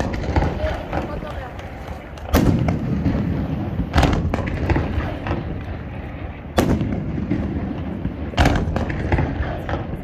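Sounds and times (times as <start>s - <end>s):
fireworks crackling bursts: 0.0s - 10.0s
fireworks loud bangs: 0.0s - 10.0s
low rumble of echoing explosions: 0.0s - 10.0s.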